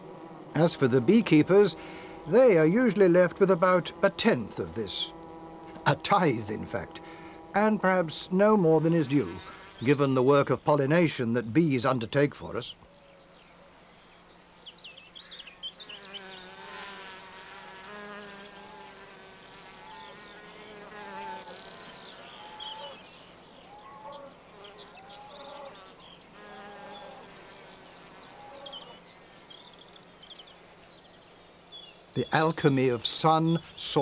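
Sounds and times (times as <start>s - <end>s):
bumblebees buzzing: 0.0s - 12.1s, 12.9s - 34.0s.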